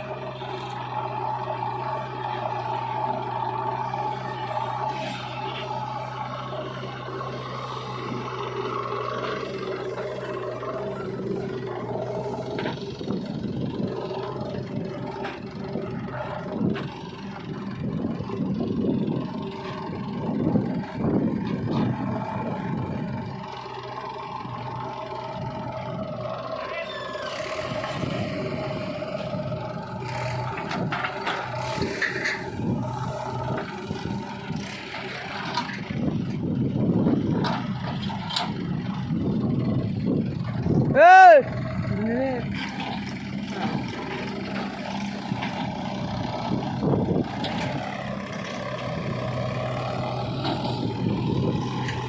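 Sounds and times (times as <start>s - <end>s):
backhoe diesel engine running: 0.0s - 52.0s.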